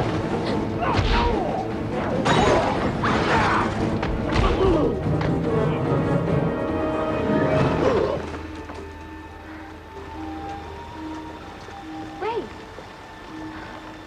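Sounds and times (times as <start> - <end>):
dramatic music score: 0.0 - 14.0.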